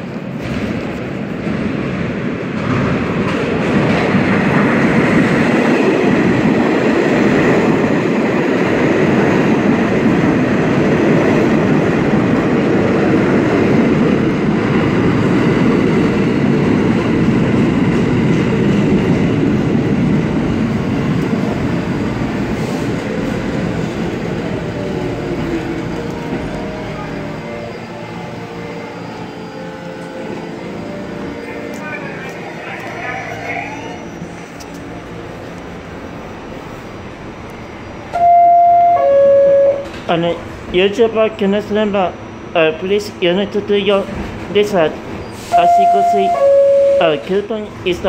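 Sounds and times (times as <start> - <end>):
steel wheels rumbling on rail: 0.0 - 48.0.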